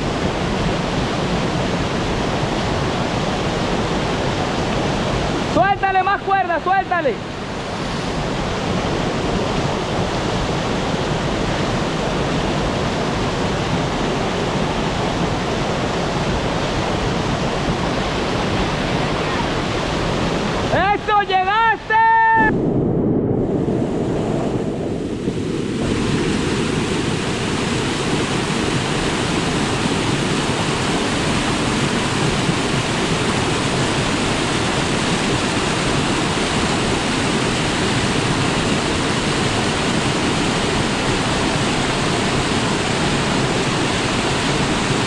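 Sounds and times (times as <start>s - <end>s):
waterfall rushing: 0.0s - 22.5s, 23.4s - 45.0s.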